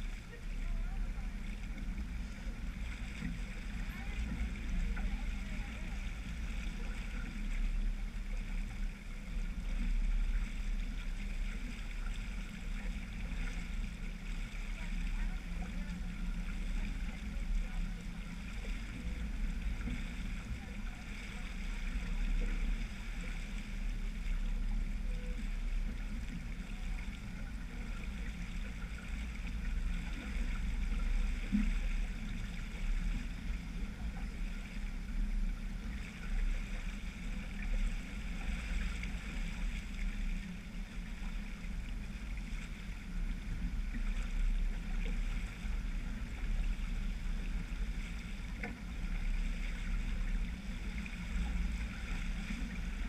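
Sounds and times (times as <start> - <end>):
water washing along hull: 0.0 - 53.0
wind rumbling on microphone: 0.0 - 53.0.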